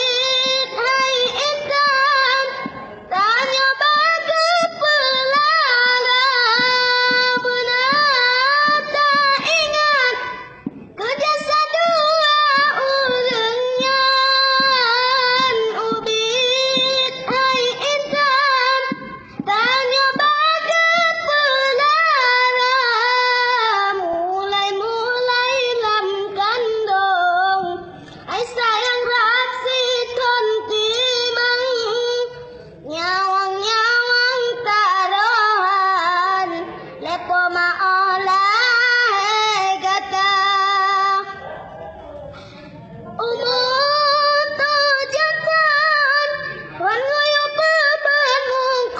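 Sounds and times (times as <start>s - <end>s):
child singing: 0.0s - 41.4s, 43.2s - 48.9s.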